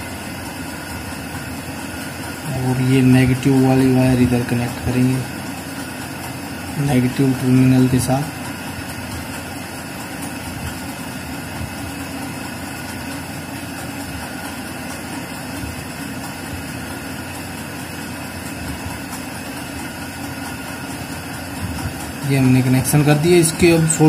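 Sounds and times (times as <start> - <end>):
machine hum and hiss: 0.0 - 24.0.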